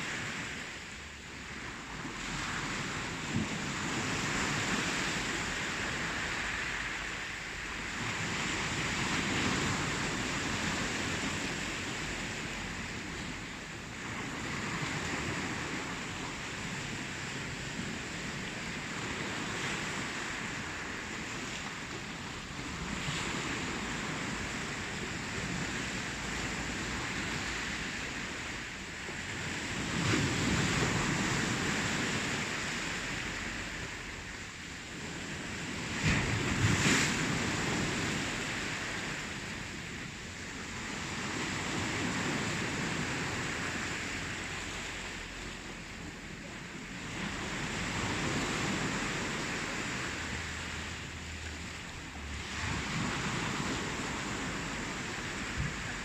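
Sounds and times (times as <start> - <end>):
ocean waves breaking on shore: 0.0 - 56.0
wind: 0.0 - 56.0.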